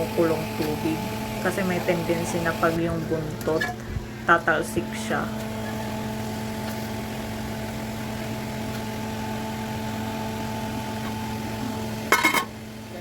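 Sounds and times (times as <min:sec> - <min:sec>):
appliance motor hum: 0:00.0 - 0:13.0.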